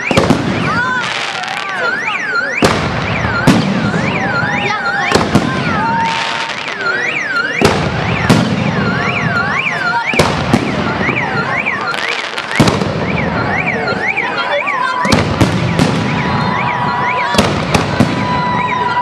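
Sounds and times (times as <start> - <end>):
car alarm wailing: 0.0 - 19.0.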